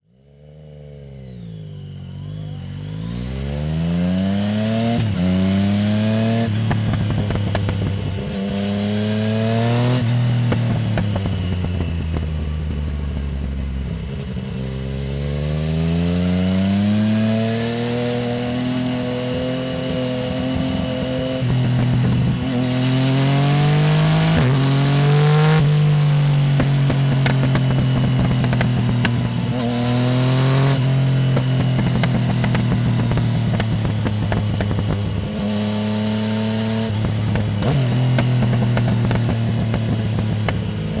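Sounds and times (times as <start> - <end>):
motorcycle engine revving: 0.1 - 41.0.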